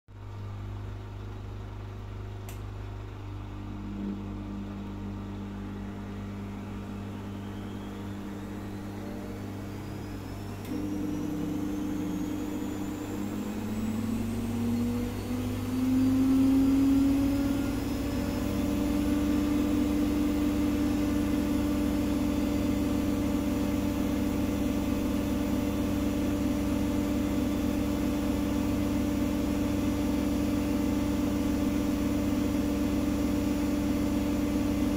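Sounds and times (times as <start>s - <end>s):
steady low hum: 0.1s - 34.9s
washing machine spinning: 0.3s - 34.9s.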